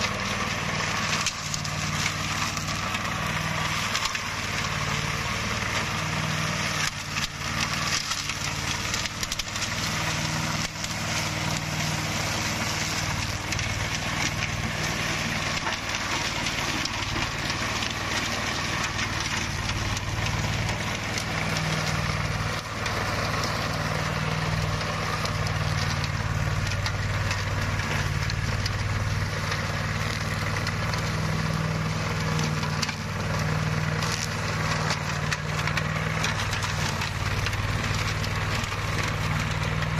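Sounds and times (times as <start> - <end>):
flail chopping dry grass: 0.0 - 39.9
flail mower engine running: 0.0 - 39.9.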